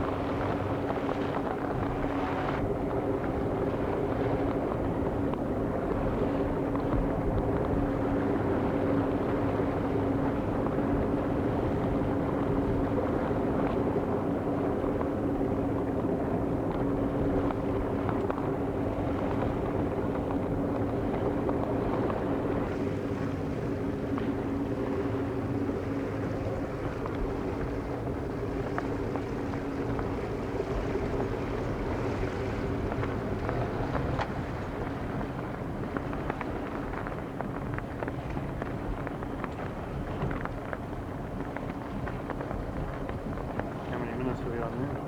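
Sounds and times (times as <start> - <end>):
motorboat engine running: 0.0 - 45.0
water noise: 0.0 - 45.0
wind: 0.0 - 45.0.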